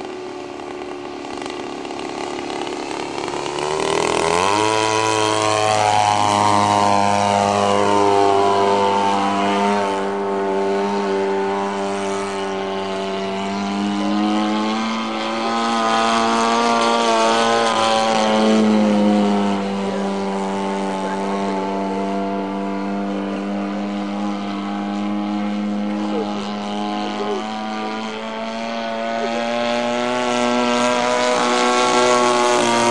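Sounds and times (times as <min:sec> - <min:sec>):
model plane engine buzzing: 0:00.0 - 0:32.9.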